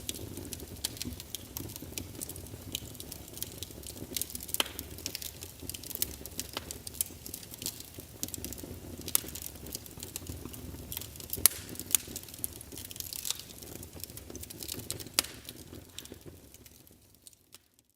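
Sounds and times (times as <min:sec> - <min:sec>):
low rumble of burning: 0:00.0 - 0:17.6
wood fire crackling and popping: 0:00.0 - 0:17.9.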